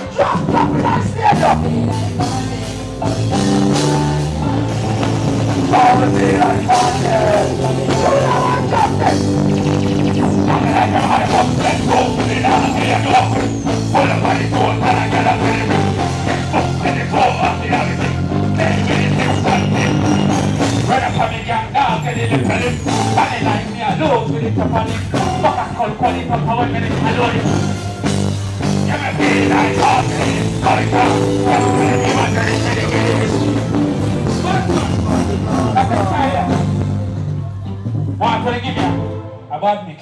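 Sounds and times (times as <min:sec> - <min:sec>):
loud music with heavy beat: 0:00.0 - 0:37.3.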